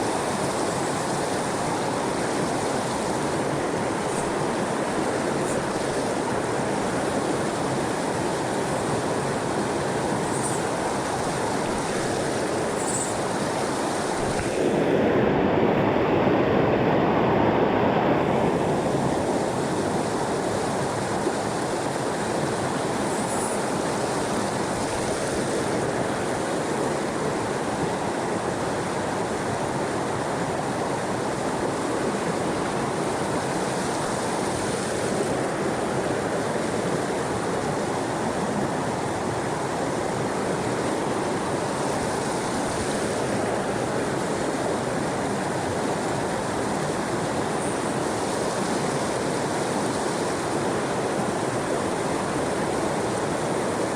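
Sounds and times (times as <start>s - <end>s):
creek water rushing: 0.0s - 53.9s.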